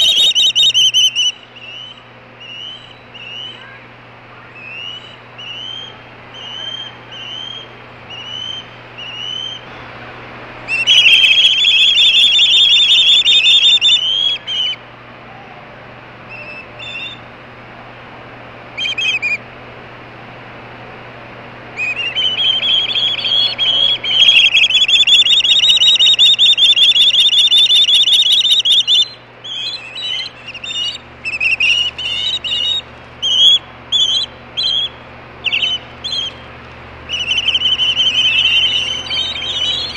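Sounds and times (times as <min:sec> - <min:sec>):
short whistled calls: 0:00.0 - 0:03.8, 0:04.5 - 0:09.7, 0:10.7 - 0:14.8, 0:16.3 - 0:17.2, 0:18.8 - 0:19.4, 0:21.8 - 0:36.5, 0:37.1 - 0:39.9.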